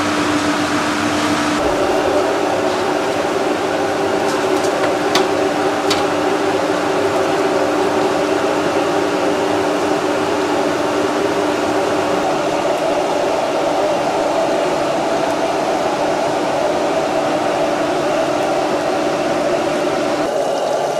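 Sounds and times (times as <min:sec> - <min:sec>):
kitchen exhaust fan humming: 0:00.0 - 0:20.9.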